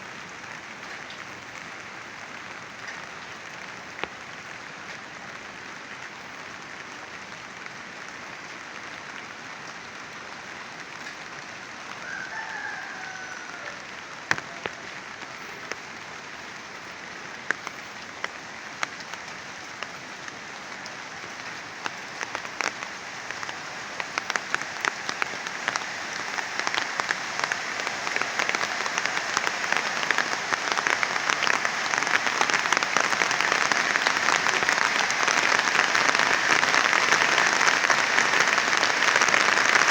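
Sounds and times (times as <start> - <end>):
heavy rain falling: 0.0 - 39.9
sharp ticks of raindrops: 0.0 - 39.9.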